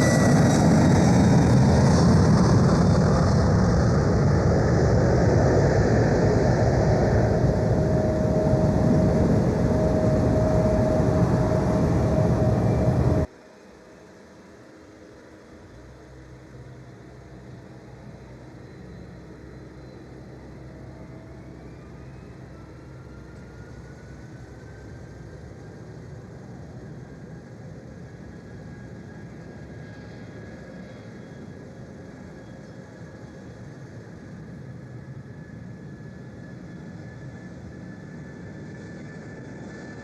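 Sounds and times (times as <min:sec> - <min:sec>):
jet engines rumbling with whine: 0:00.0 - 0:40.0.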